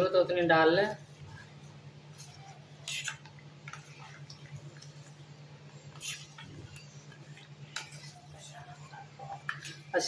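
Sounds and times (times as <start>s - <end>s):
spoon stirring batter: 0.0s - 10.0s.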